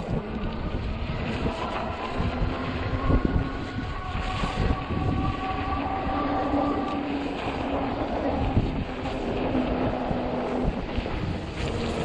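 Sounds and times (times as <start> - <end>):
steady high whine: 0.0 - 12.0
wind rumbling on microphone: 0.0 - 12.0.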